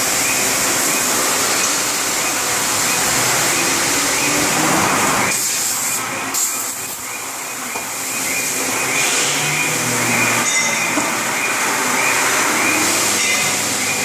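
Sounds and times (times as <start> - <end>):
cnc machine running: 0.0 - 14.0.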